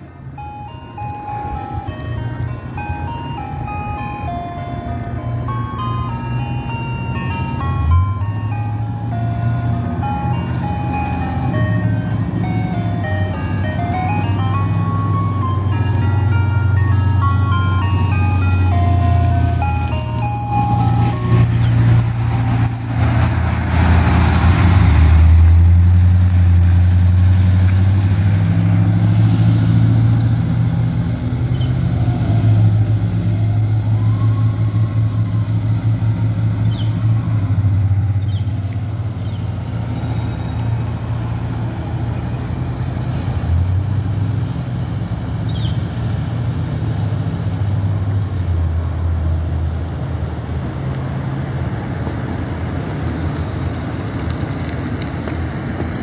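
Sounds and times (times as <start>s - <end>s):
truck engine driving past: 0.0s - 56.0s.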